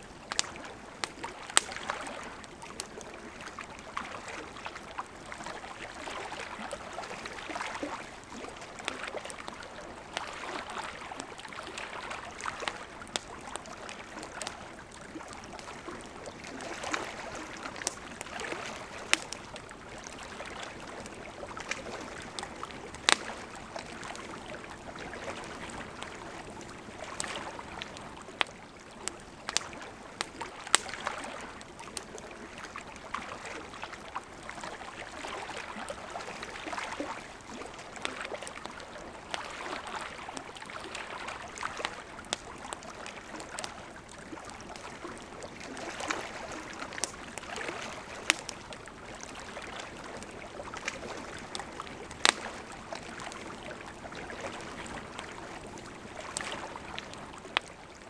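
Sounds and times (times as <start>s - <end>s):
wood fire crackling and popping: 0.2s - 4.1s, 5.9s - 32.8s, 36.5s - 57.8s.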